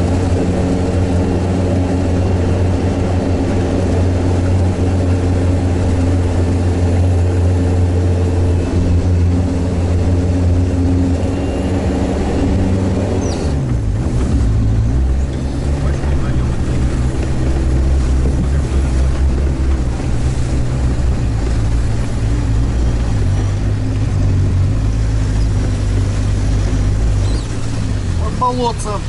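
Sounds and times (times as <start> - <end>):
diesel engine running under load: 0.0 - 29.0.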